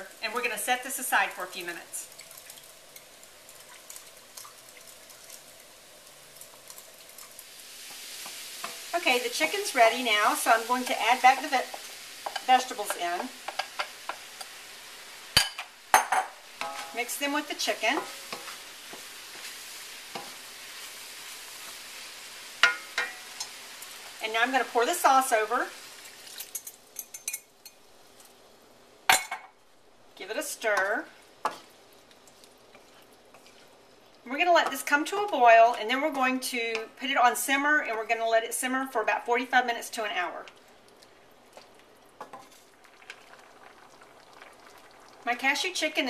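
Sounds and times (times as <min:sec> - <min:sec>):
chicken sizzling in oil: 0:00.0 - 0:29.2, 0:29.8 - 0:46.0.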